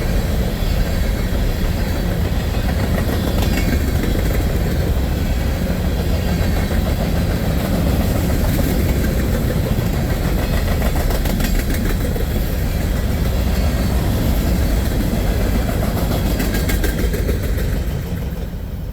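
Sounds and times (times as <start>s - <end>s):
freight train rolling past: 0.0s - 18.9s
wheels clicking over rail: 1.0s - 18.9s.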